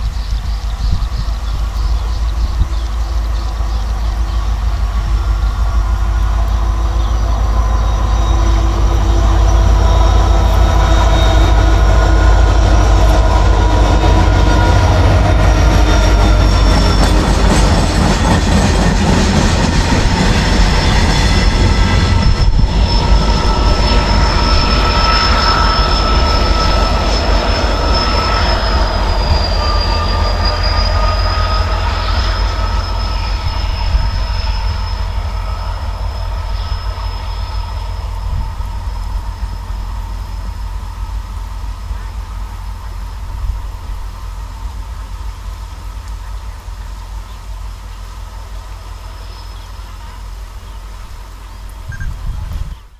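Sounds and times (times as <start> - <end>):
train rumbling past: 0.0 - 52.9
wheels squealing on rails: 0.0 - 52.9.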